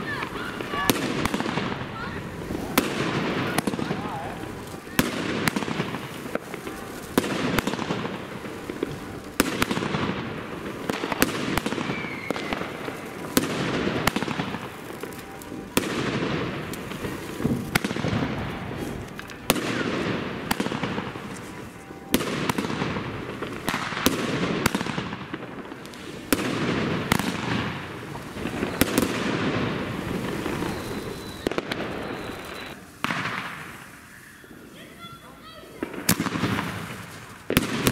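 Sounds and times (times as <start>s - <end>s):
crackling glitter stars: 0.0s - 24.1s, 27.0s - 34.8s
firework shots firing: 0.0s - 34.7s, 35.8s - 37.9s.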